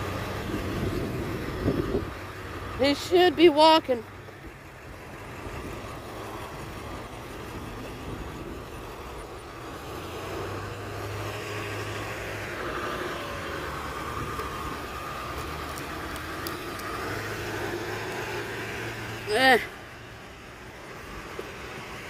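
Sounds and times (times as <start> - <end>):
motor vehicle passing by: 0.0 - 22.0.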